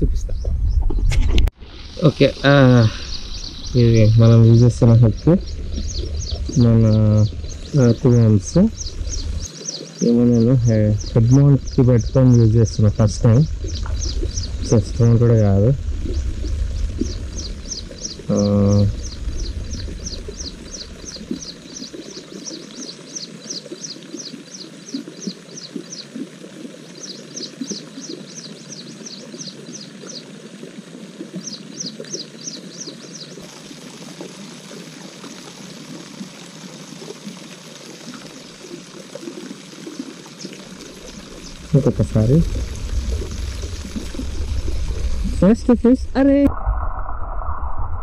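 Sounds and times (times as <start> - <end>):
low crackle: 0.0 - 48.0.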